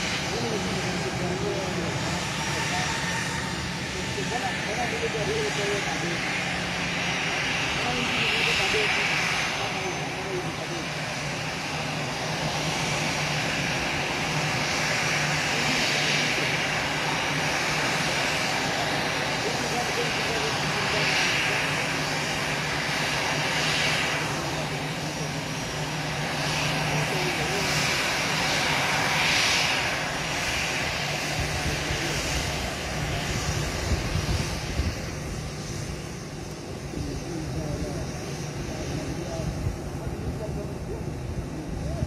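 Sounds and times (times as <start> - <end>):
jet engines at taxi power: 0.0 - 42.0.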